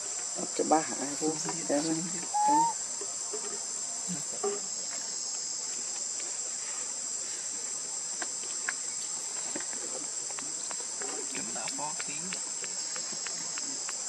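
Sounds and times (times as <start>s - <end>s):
insects shrilling: 0.0s - 13.9s.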